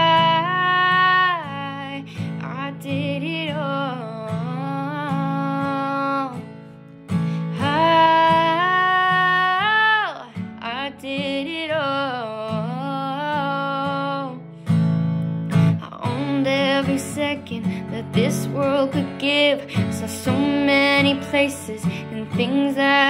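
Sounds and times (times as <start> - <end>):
girl singing: 0.0 - 6.7, 7.3 - 14.5, 15.7 - 23.0
strummed acoustic guitar: 0.0 - 23.0.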